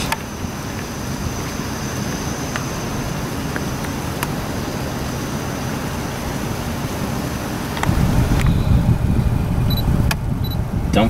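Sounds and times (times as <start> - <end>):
diesel locomotive rumbling: 0.0 - 11.0
wind on microphone: 0.0 - 11.0.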